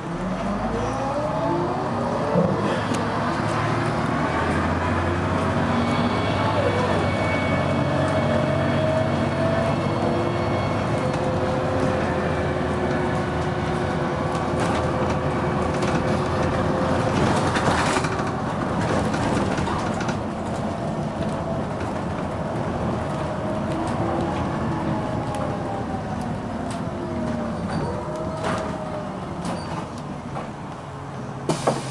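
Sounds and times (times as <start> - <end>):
bus diesel engine running: 0.0 - 31.9.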